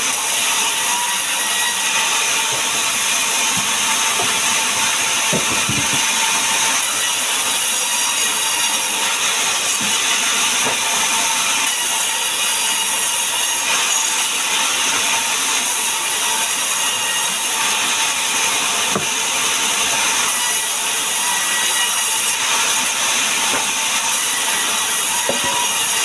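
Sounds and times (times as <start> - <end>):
band saw cutting wood: 0.0 - 26.0.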